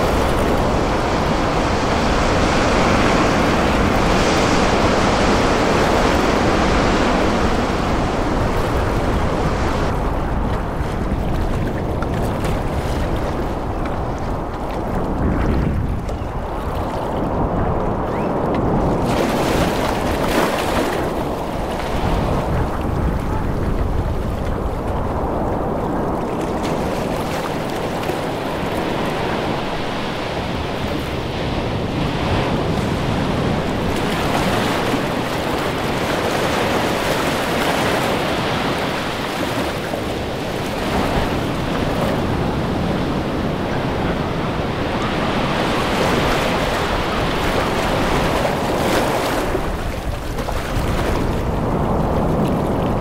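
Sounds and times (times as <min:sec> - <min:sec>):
waves breaking on beach: 0:00.0 - 0:53.0
wind rumbling on microphone: 0:00.0 - 0:53.0.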